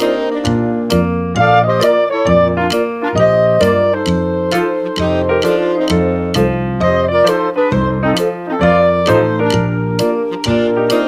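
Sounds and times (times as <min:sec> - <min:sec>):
piano or keyboard tune: 0:00.0 - 0:11.0.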